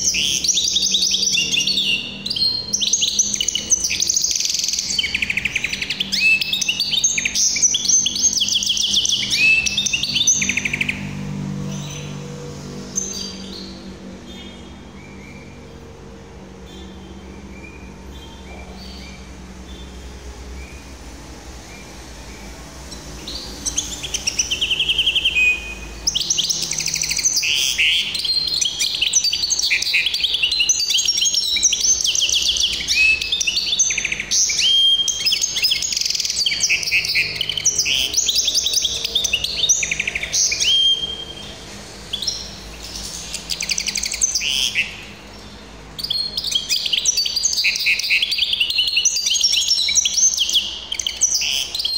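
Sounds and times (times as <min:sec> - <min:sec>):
finch singing trills and chirps: 0:00.0 - 0:51.9.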